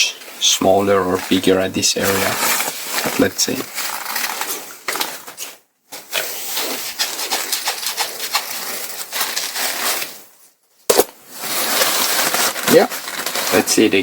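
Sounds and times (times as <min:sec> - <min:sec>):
nylon fabric rustling and crinkling: 0:00.2 - 0:10.6, 0:11.2 - 0:14.0.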